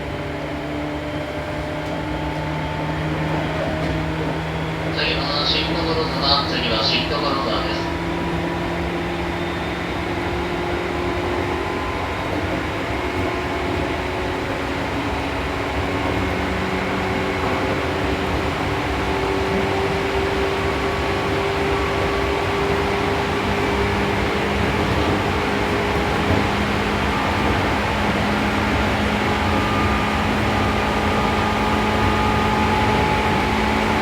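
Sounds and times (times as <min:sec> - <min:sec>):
train wheel and rail noise: 0:00.0 - 0:34.0.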